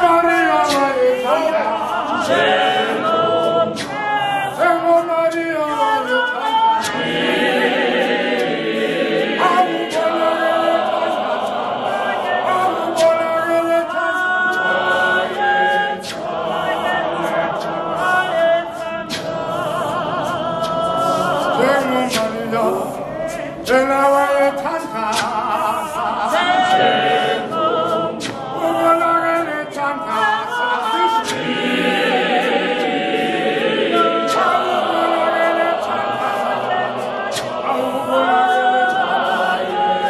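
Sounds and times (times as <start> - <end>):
choir singing a hymn a cappella: 0.0 - 40.0.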